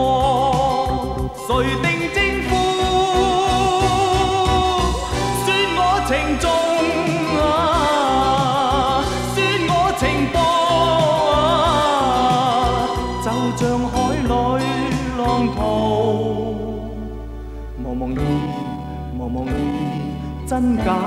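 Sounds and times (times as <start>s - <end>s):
sustained music backing: 0.0s - 21.0s.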